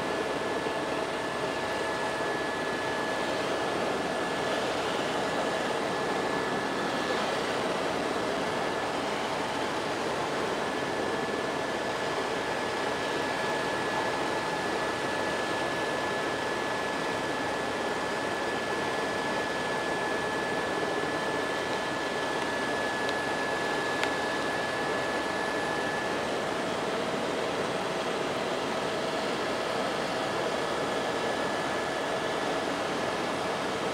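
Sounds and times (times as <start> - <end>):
helicopter engine and rotor drone: 0.0 - 33.9
thin high whine: 0.0 - 33.9.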